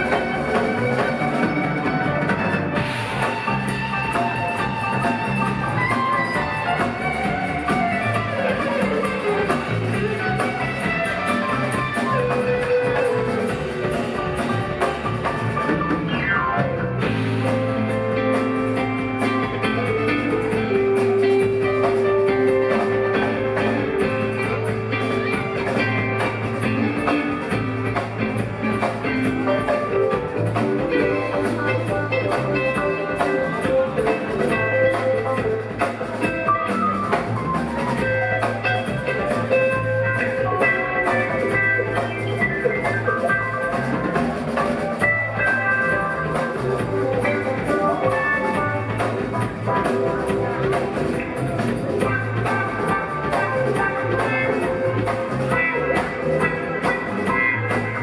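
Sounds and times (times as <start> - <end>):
rock band instrumental jam: 0.0 - 58.0.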